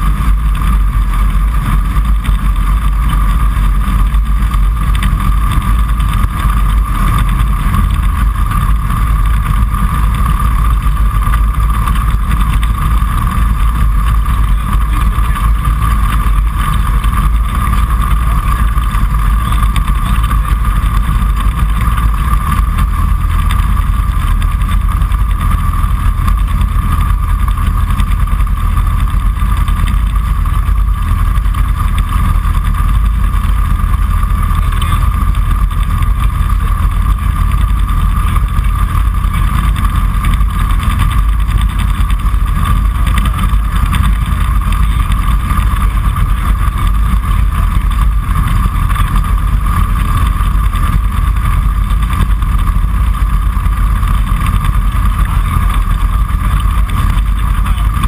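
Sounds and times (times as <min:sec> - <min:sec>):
light aircraft engine drone: 0:00.0 - 0:58.0
steady high hum: 0:00.0 - 0:58.0.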